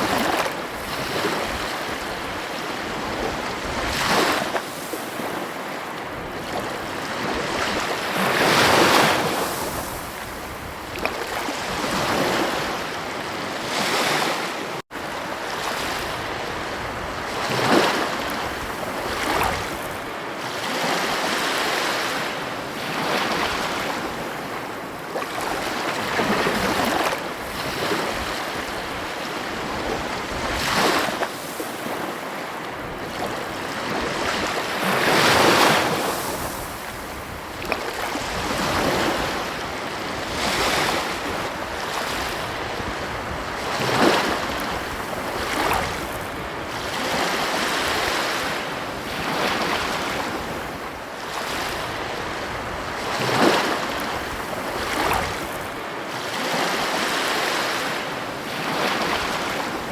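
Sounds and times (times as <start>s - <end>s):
ocean waves breaking: 0.0s - 59.9s
wind: 0.0s - 59.9s.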